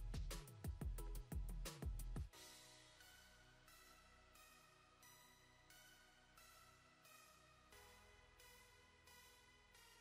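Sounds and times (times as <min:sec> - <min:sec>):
faint instrumental background music: 0:00.0 - 0:10.0.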